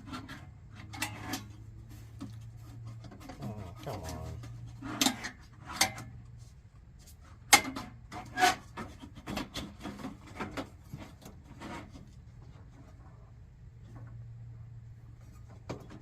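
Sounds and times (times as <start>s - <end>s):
heater parts clicking and rubbing: 0.0s - 14.3s.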